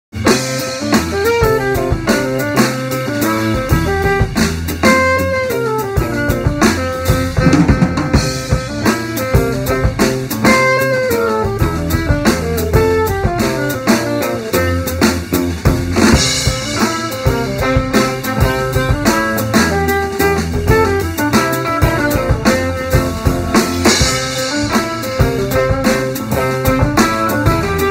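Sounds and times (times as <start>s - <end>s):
drum kit: 0.1s - 27.9s
busy melodic line: 0.2s - 27.9s
guitar: 0.2s - 27.9s.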